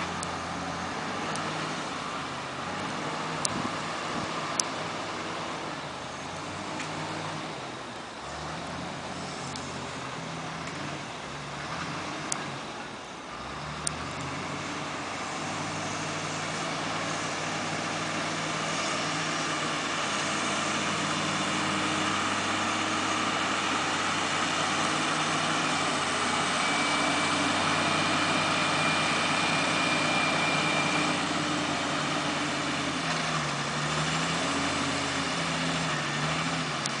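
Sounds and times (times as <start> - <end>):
heavy machine engine running: 0.0 - 37.0.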